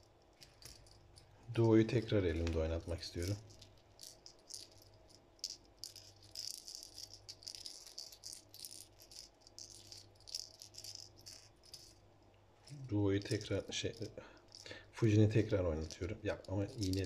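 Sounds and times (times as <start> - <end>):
fishing lure rattling: 0.0 - 17.0.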